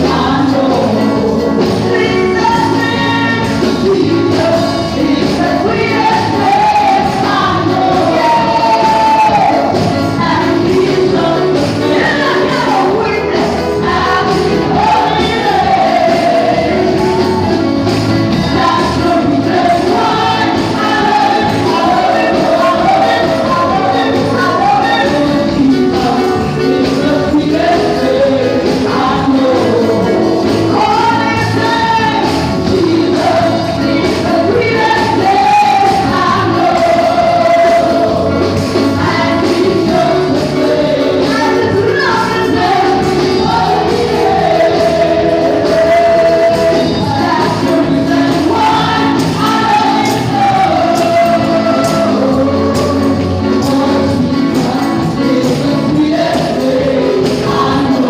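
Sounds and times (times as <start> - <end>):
congregation singing: 0.0 - 58.0
instrumental accompaniment with beat: 0.0 - 58.0.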